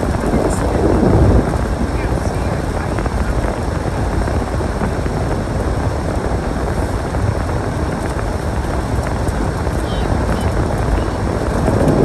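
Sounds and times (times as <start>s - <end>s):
storm wind buffeting microphone: 0.0s - 12.0s.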